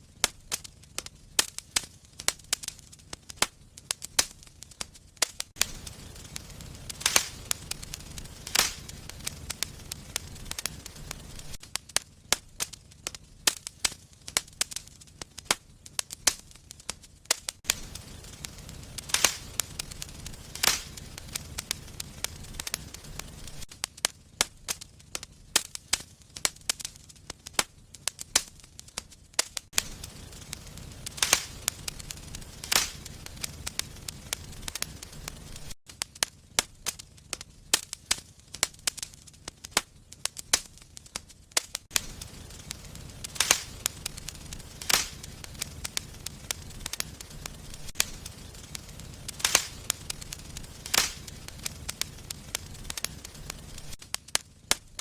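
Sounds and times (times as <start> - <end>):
wood fire crackling: 0.0 - 55.0
fire popping sharply: 0.2 - 55.0.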